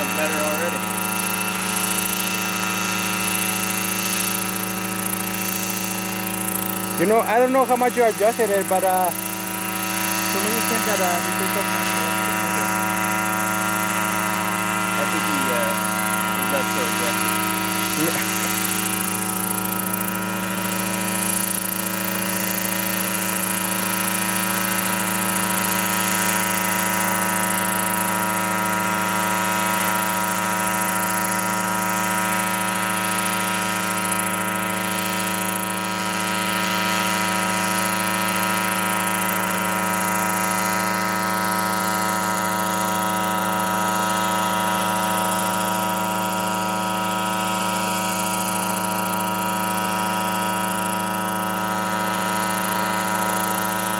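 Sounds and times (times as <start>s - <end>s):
helicopter engine and rotors drone: 0.0s - 53.9s.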